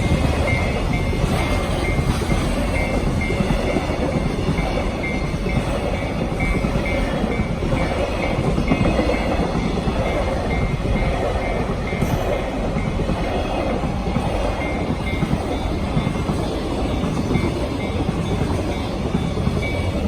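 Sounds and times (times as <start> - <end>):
freight train rumbling past: 0.0 - 20.0
level crossing warning bell: 0.0 - 20.0.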